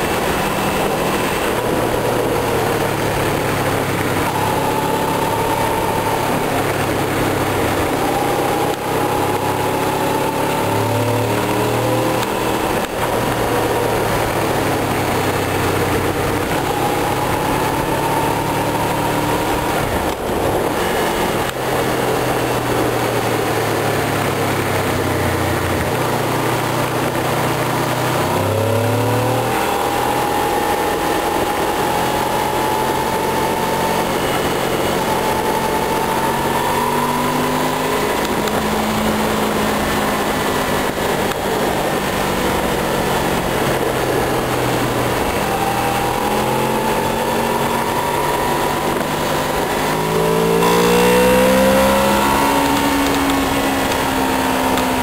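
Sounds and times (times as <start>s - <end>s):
motorcycle engine running: 0.0s - 55.0s
wind rush over microphone: 0.0s - 55.0s.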